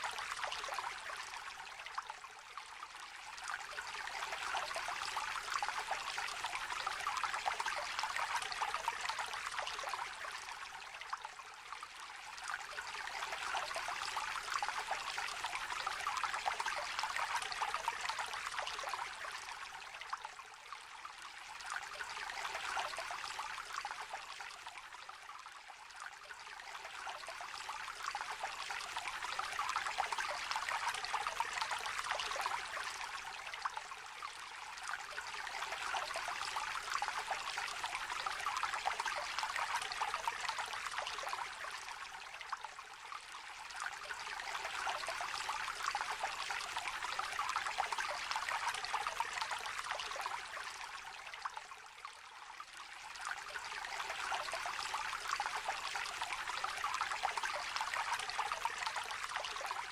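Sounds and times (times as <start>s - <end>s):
river water trickling: 0.0s - 59.9s.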